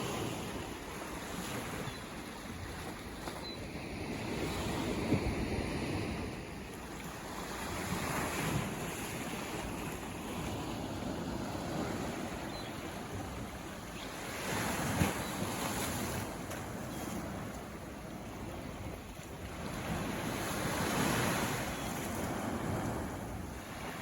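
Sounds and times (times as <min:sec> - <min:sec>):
ocean waves washing onto shore: 0:00.0 - 0:24.0
wind rumble on microphone: 0:00.0 - 0:24.0.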